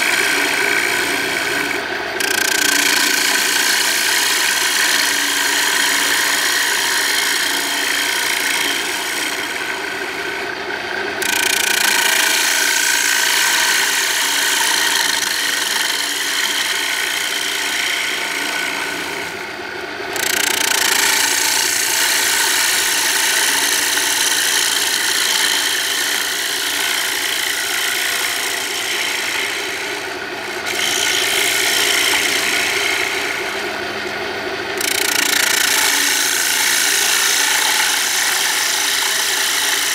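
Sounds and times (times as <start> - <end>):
gouge scraping spinning wood: 0.0 - 39.9
wood lathe running: 0.0 - 39.9.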